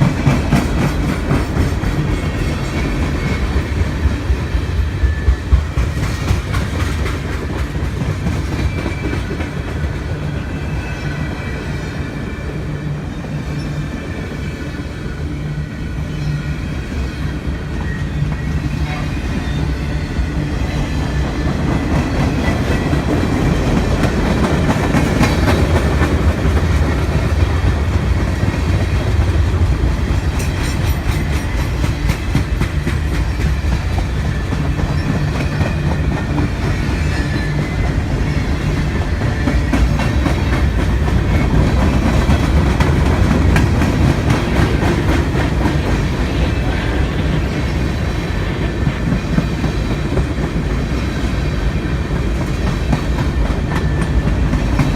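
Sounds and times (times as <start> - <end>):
train rumble: 0.0 - 54.9.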